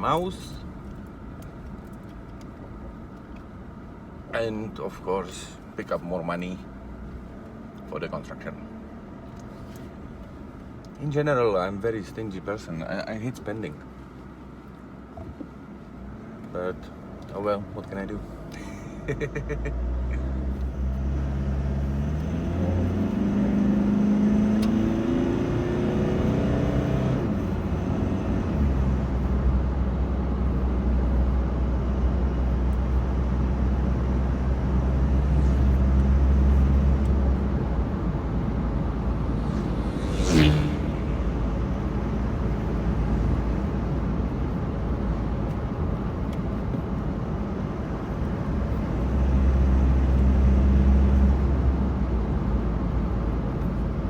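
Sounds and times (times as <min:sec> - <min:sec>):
car engine: 0:00.0 - 0:54.0
road noise: 0:00.0 - 0:54.0.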